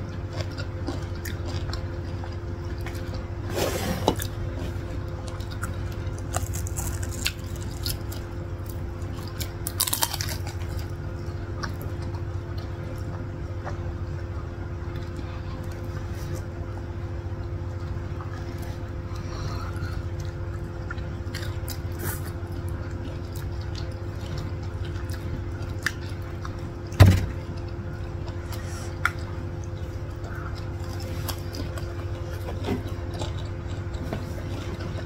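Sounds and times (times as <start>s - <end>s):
low steady hum: 0.0s - 35.0s
people chewing crispy food: 0.0s - 35.0s.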